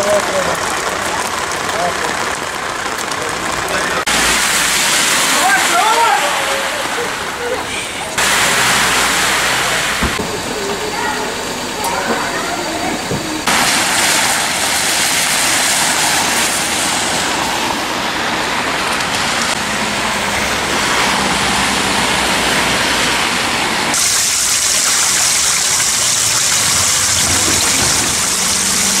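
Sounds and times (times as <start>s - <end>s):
car tyres splashing through water: 0.0s - 29.0s
rainwater rushing over pavement: 0.0s - 29.0s.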